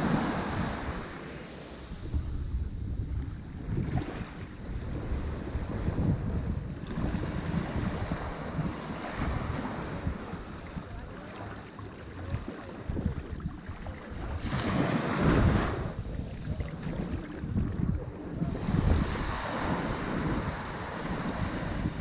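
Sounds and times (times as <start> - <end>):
ocean surf washing on shore: 0.0 - 22.0
wind buffeting microphone: 0.0 - 22.0.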